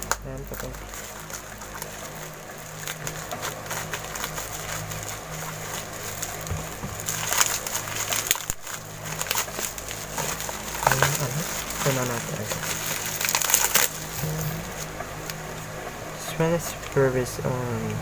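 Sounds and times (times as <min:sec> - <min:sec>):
packaging crackling and tearing: 0:00.0 - 0:15.8.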